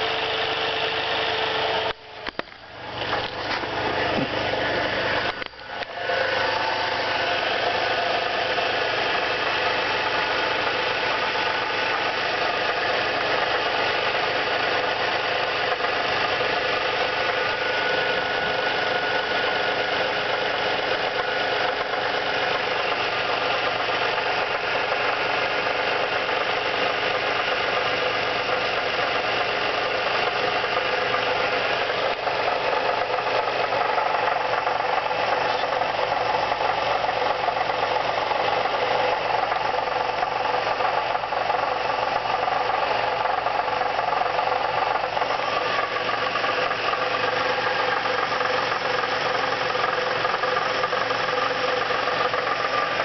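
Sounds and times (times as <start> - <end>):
car engine running: 0.0 - 53.0
fast rattle under hood: 0.0 - 53.0.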